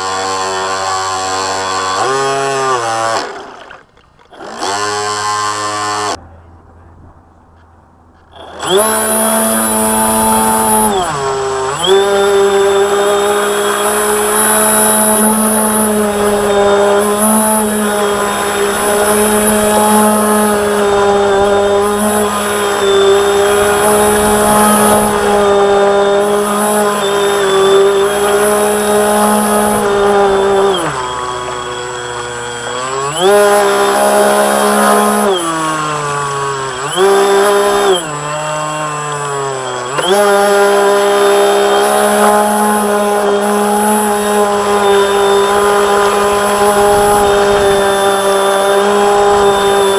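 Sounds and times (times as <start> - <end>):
electric motor whining: 0.0 - 6.2, 8.2 - 49.9.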